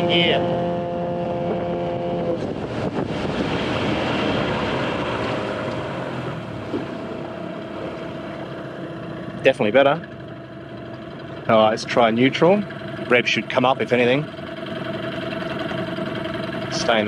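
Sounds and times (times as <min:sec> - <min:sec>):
outboard motor running: 0:00.0 - 0:17.0
water rushing: 0:00.0 - 0:17.0
wind: 0:00.0 - 0:17.0.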